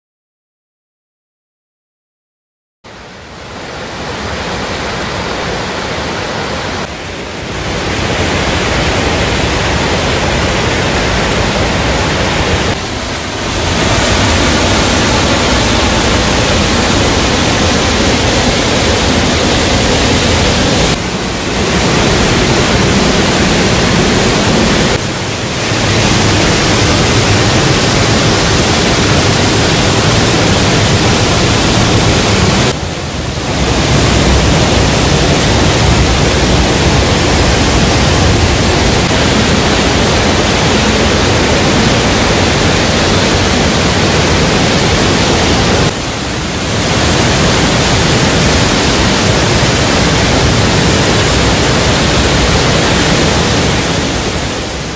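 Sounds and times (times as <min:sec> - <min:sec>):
waterfall splashing: 0:02.9 - 0:54.9.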